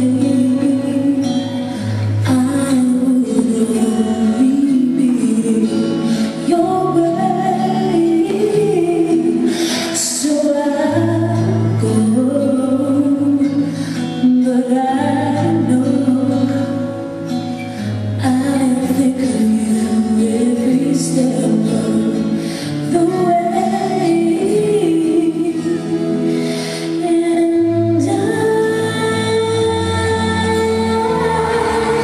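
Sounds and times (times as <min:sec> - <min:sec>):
woman singing: 0:00.0 - 0:32.0.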